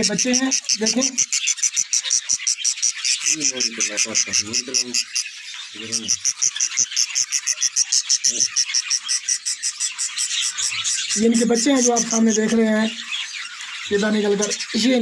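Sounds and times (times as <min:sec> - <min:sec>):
bird chicks chirping: 0:00.0 - 0:15.0.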